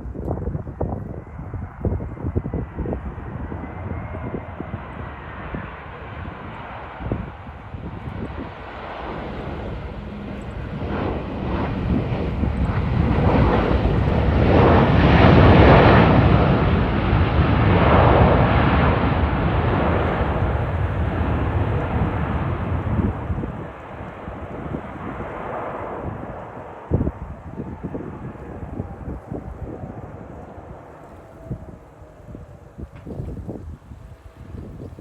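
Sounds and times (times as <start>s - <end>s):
jet engines of landing airliner: 0.0s - 35.0s.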